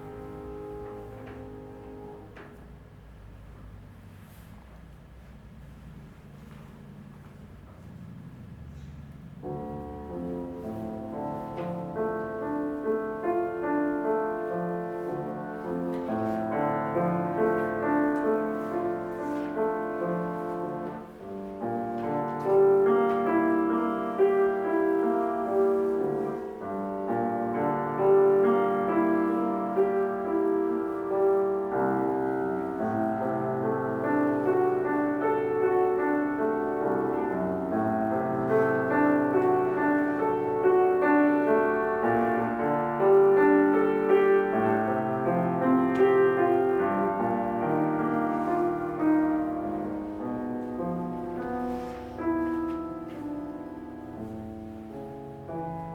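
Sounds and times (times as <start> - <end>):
solo piano classical passage: 0.0 - 55.9.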